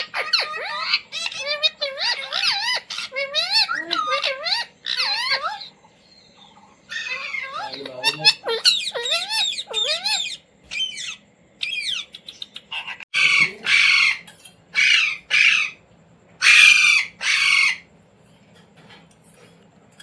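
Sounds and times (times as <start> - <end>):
parrot squawking: 0.0 - 15.8, 16.4 - 17.9.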